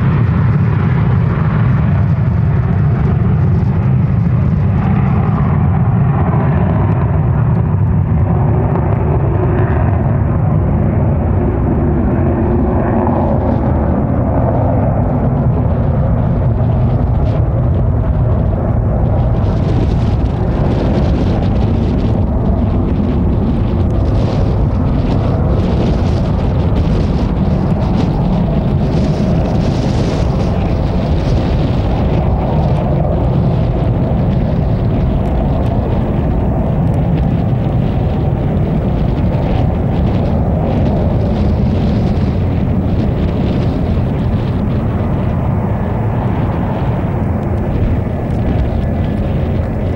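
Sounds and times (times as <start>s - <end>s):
jet engines rumbling at takeoff: 0.0s - 49.9s.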